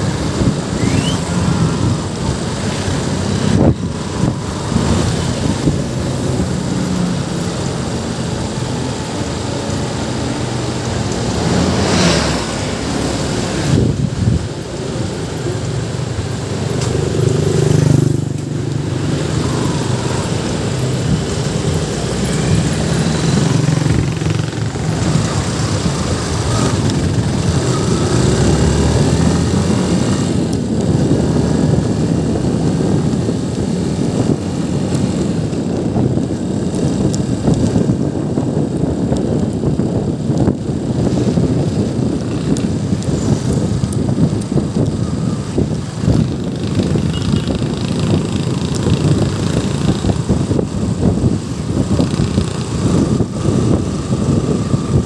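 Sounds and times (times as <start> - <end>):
motorcycle engine running: 0.0 - 55.0
road and wind noise: 0.0 - 55.0.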